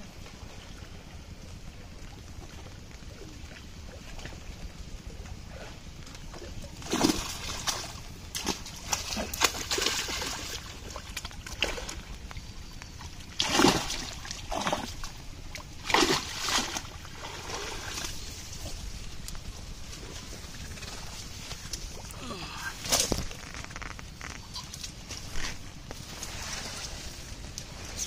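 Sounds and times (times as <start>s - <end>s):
water splashing and sloshing: 0.0s - 28.0s.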